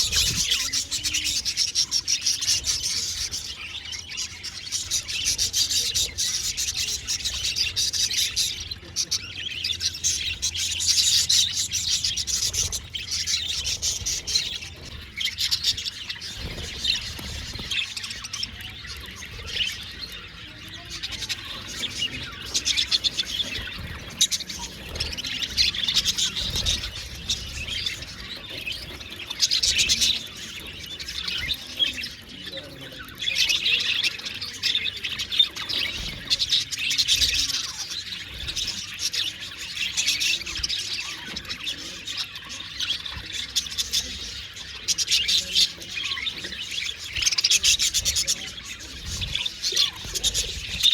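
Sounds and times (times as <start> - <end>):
budgerigars chattering and chirping: 0.0 - 50.9.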